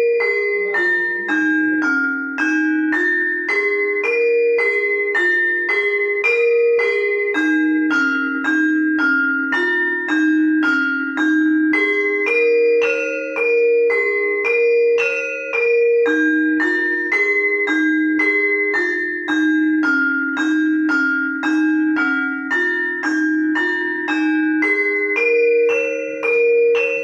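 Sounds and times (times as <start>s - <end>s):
gamelan metallophone melody: 0.0s - 27.0s.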